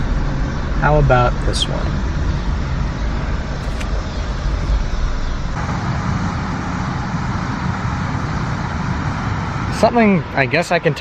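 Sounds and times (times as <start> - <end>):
car engine and tyres rumbling: 0.0 - 11.0
road traffic hiss and hum: 0.0 - 11.0.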